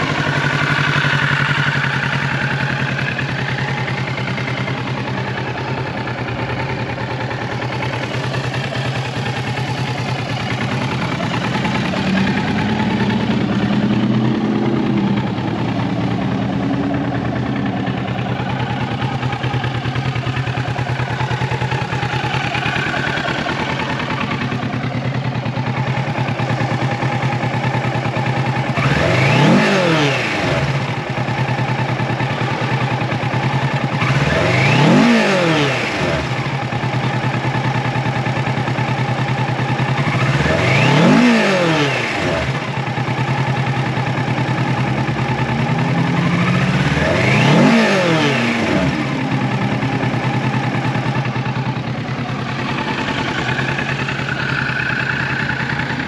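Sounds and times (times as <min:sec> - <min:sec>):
motorcycle engine idling: 0:00.0 - 0:56.0
motorcycle throttle blips: 0:00.0 - 0:56.0.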